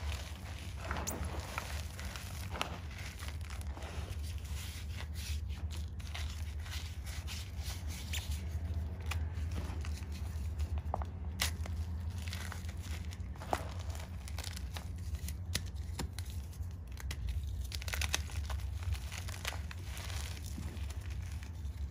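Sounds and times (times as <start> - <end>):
chalk crumbling: 0.0 - 21.9
steady low hum: 0.0 - 21.9.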